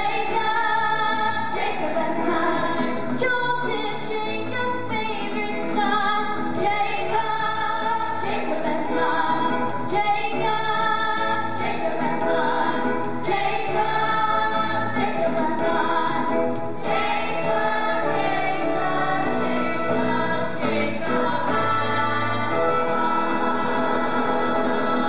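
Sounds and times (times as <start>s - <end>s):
ensemble of voices singing: 0.0s - 25.0s
instrumental accompaniment: 0.0s - 25.0s.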